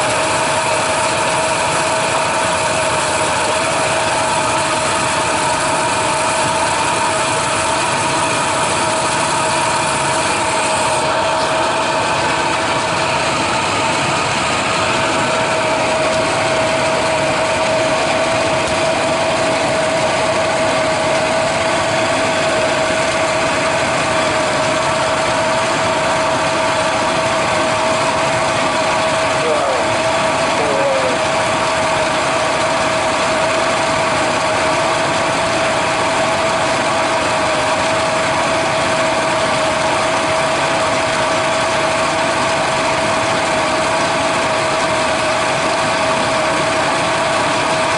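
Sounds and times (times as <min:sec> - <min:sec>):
engine running with whine: 0:00.0 - 0:47.9.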